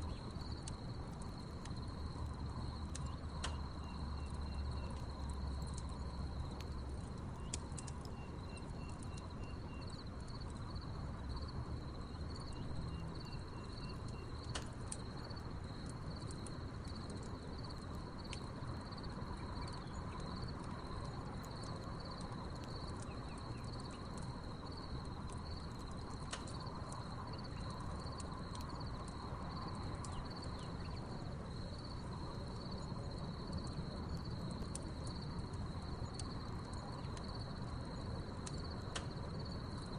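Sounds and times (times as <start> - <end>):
crickets chirping: 0.0 - 39.9
low background rumble: 0.0 - 39.9
wood fire crackling: 0.0 - 39.9.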